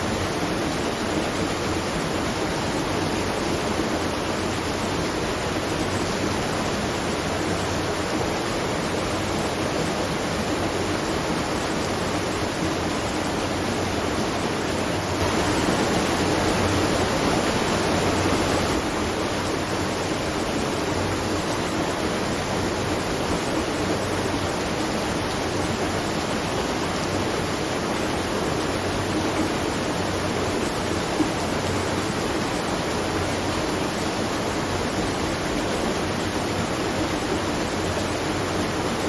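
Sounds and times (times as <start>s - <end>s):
water rushing and splashing: 0.0s - 39.0s.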